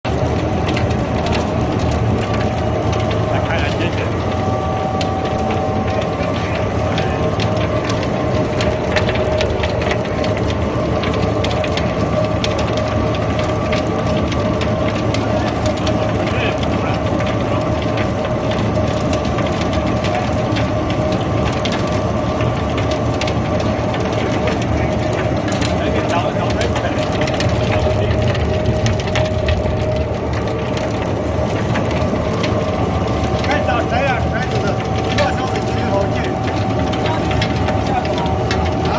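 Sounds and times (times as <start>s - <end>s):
sharp clicks and rattles: 0.0s - 38.9s
pellet mill droning: 0.1s - 38.9s.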